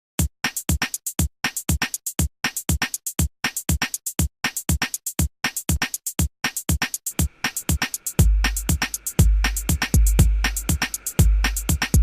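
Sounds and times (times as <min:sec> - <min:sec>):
drum machine beat: 0:00.2 - 0:12.0.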